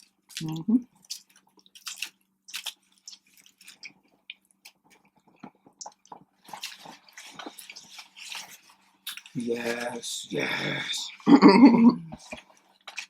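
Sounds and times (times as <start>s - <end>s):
chewing fried food: 0.0s - 11.2s, 12.1s - 13.0s
faint steady hum: 0.0s - 13.0s.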